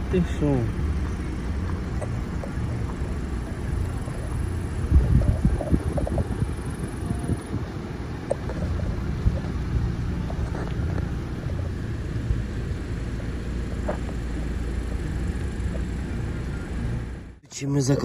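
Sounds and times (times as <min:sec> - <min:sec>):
car rolling on dirt track: 0:00.0 - 0:17.3.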